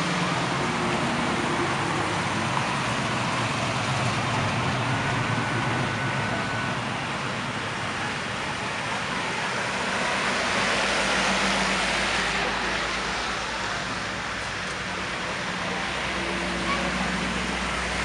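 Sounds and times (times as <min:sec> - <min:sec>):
car engines rumbling low: 0:00.0 - 0:18.0
street noise: 0:00.0 - 0:18.0.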